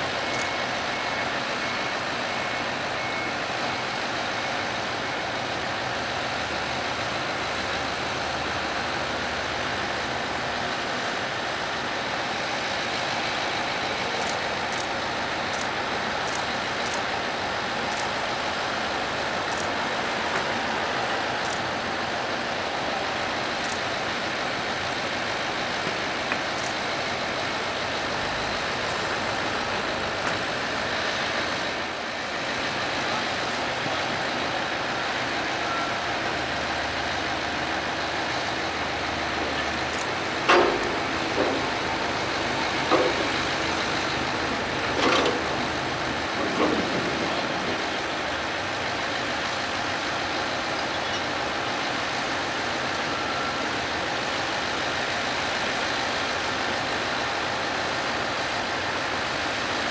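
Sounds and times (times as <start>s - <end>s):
heavy engine running: 0.0s - 59.9s.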